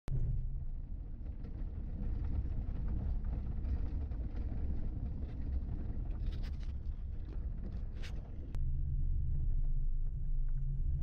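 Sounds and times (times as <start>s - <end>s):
vehicle engine and tyres rumbling: 0.1s - 11.0s.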